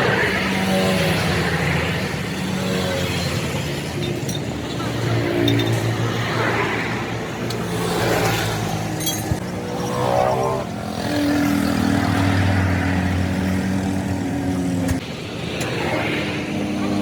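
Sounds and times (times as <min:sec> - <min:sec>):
vehicle engines passing by: 0:00.0 - 0:17.0.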